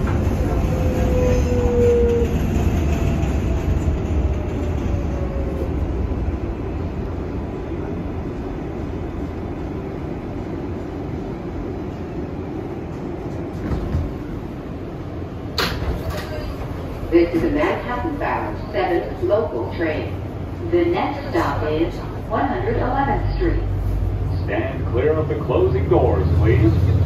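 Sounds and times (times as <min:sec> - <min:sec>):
subway train slowing: 0:00.0 - 0:27.0
train car humming: 0:00.0 - 0:27.0.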